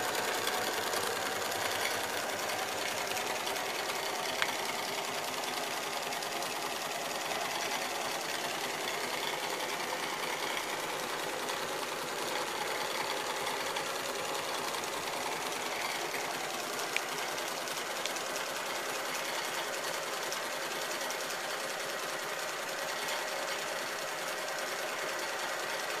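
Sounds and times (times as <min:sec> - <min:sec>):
model locomotive clatter: 0:00.0 - 0:26.0.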